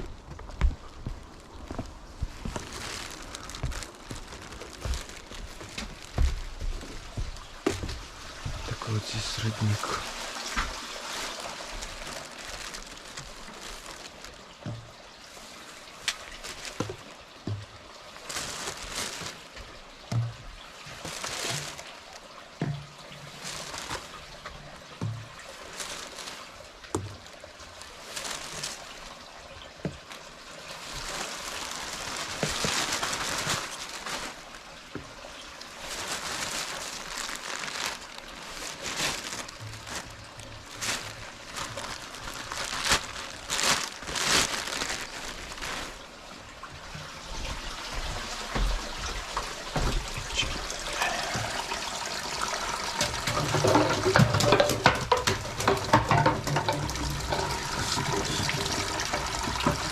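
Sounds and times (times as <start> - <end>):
spring water trickling: 0.0 - 59.9.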